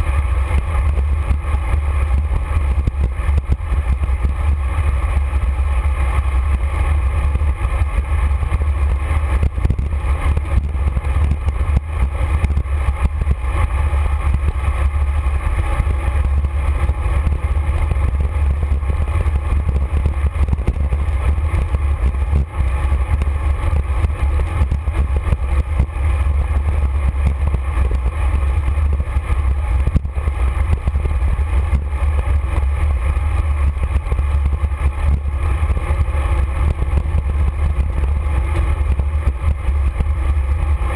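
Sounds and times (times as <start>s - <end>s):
bicycle road noise: 0.0s - 40.9s
wind buffeting microphone: 0.0s - 40.9s.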